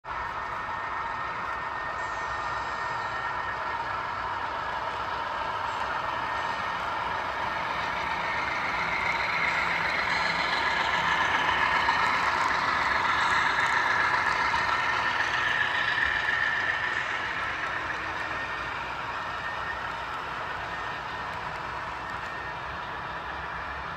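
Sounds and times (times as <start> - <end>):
model train rolling past: 0.1 - 23.9.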